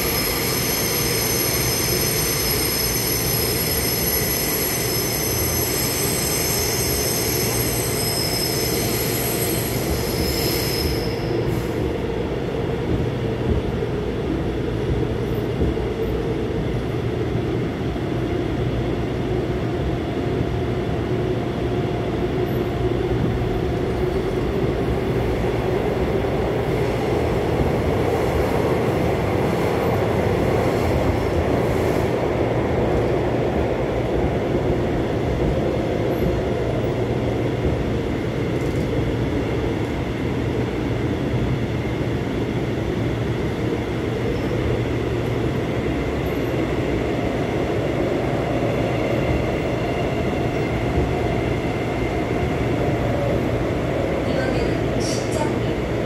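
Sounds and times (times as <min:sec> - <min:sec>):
subway wheels rumbling on track: 0:00.0 - 0:56.0.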